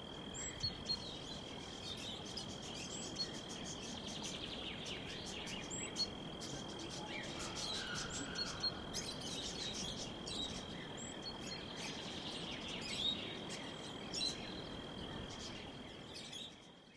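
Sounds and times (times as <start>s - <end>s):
low background hiss: 0.0s - 16.9s.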